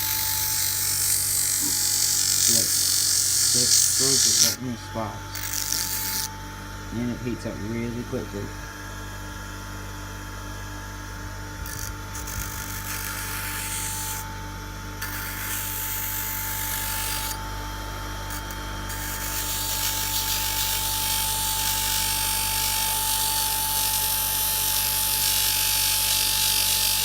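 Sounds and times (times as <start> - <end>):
grinding wheel rasping metal: 0.0 - 7.9, 11.6 - 14.4, 15.0 - 17.4, 18.2 - 27.0
bench grinder motor whine: 0.0 - 27.0.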